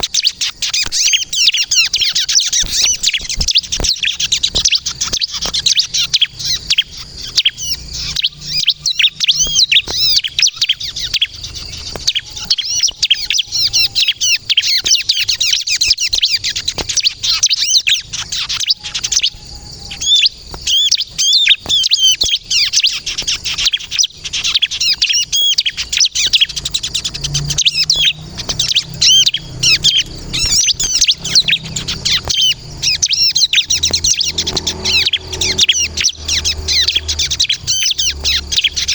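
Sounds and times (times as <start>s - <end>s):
bird chirps and trills: 0.0s - 38.9s.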